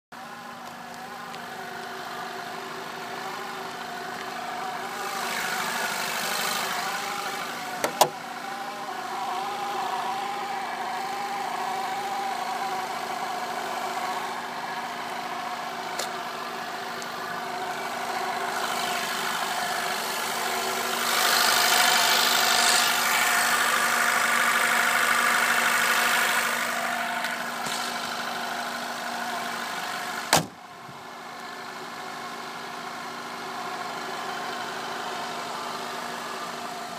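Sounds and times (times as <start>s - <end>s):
car engine idling with warbling tone: 0.2s - 36.9s.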